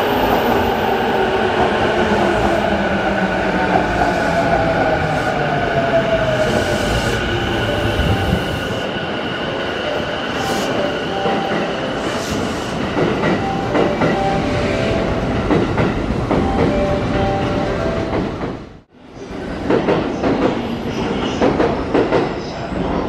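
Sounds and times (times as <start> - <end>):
train high whine: 0.0 - 19.5.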